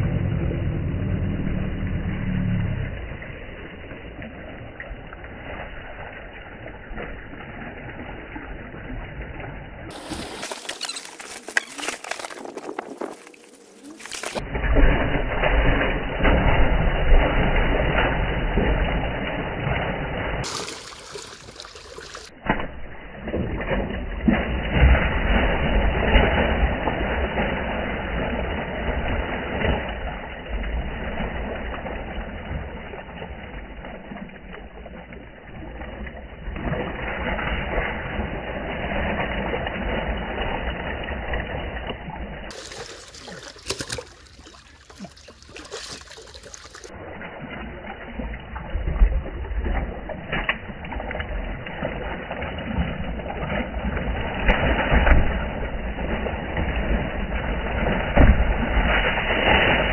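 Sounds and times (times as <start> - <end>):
water sloshing and slapping: 2.9 - 59.9
fish thrashing and splashing: 9.9 - 59.9.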